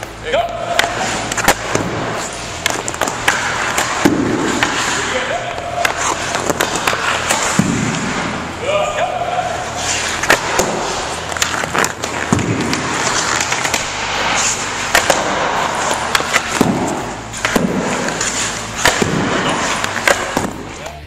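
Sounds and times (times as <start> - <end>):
puck smacking goalie pads: 0.0 - 8.5, 9.6 - 21.0
skates scraping ice: 0.0 - 21.0
puck cracking off stick: 0.5 - 8.4, 9.7 - 21.0.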